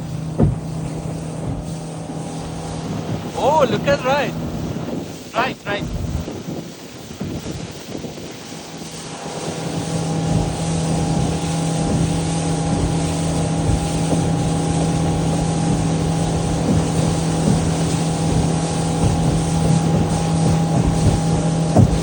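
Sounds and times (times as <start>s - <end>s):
motorboat engine: 0.0s - 22.0s
wind buffeting microphone: 0.0s - 22.0s.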